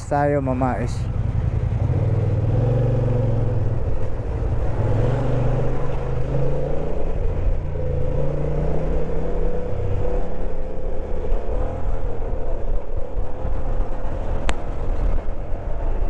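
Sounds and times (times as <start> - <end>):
road and wind noise: 0.0 - 16.0
motorcycle engine running: 0.2 - 16.0.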